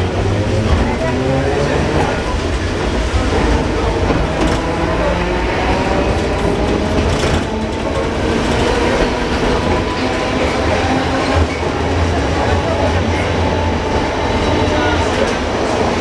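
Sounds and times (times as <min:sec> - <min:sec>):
tram wheels rumbling on rail: 0:00.0 - 0:16.0.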